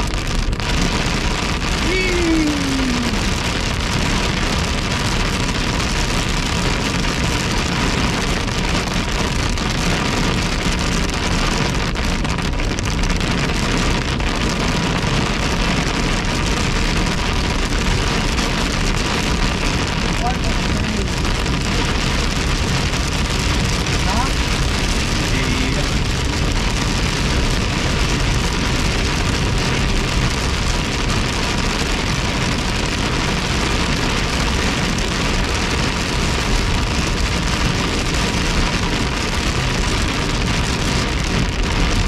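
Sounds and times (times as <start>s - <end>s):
heavy rain on car: 0.0s - 42.0s.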